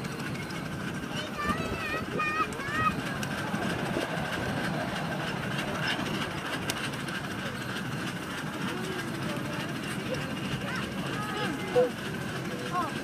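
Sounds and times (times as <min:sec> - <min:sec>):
miniature train running on track: 0:00.0 - 0:13.0
train cars rattling and clacking: 0:00.0 - 0:13.0.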